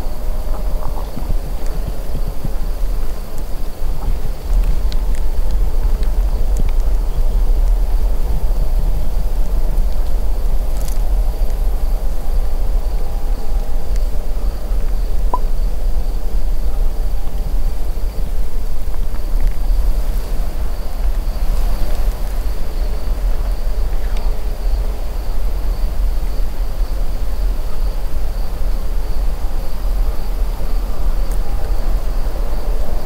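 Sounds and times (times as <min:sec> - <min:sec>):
crickets droning: 0:00.0 - 0:33.0.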